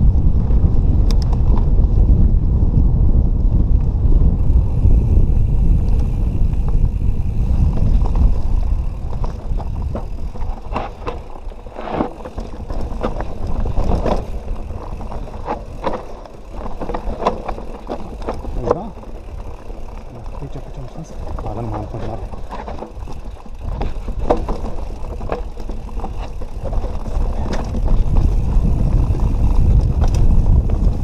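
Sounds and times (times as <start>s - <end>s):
wind buffeting microphone: 0.0s - 31.0s
bike rattling with sharp knocks: 3.9s - 31.0s.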